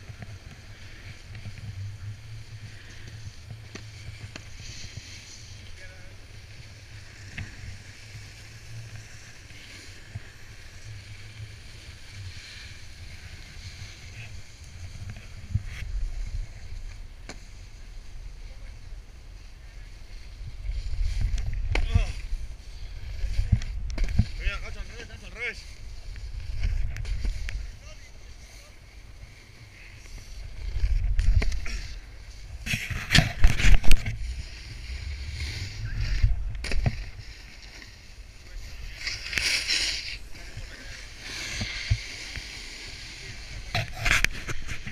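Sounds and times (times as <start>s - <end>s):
snowboard scraping over snow: 0.0s - 44.9s
wind rumbling on microphone: 0.0s - 44.9s.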